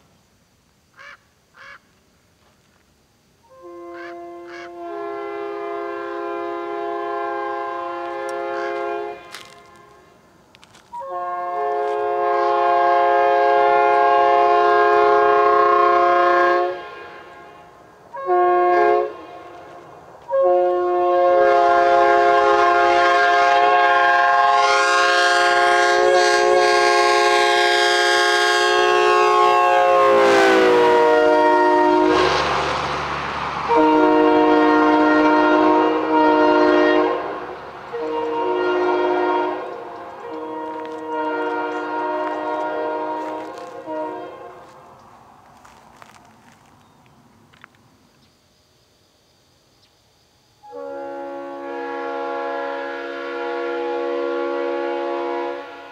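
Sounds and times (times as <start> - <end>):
passing train noise: 0.0 - 55.9
locomotive air horn blasts: 3.4 - 33.0, 33.6 - 44.8, 50.6 - 55.9.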